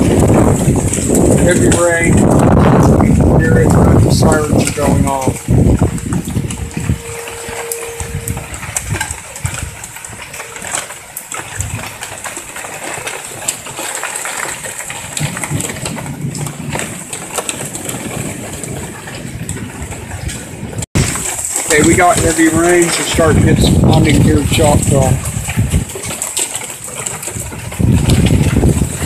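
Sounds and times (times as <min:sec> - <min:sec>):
gusting wind rumbling: 0:00.0 - 0:29.0
heavy rain pouring: 0:00.0 - 0:29.0.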